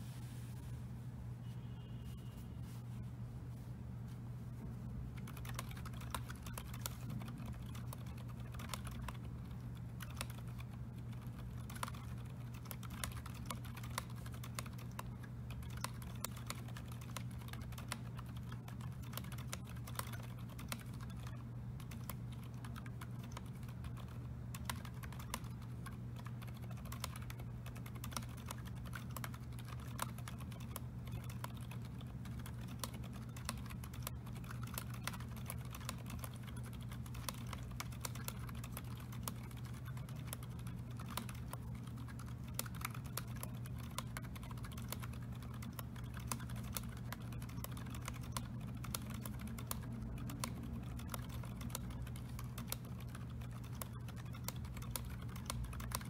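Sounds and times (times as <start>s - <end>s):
steady low hum: 0.0s - 56.0s
fast typing on mechanical keyboard: 5.1s - 56.0s.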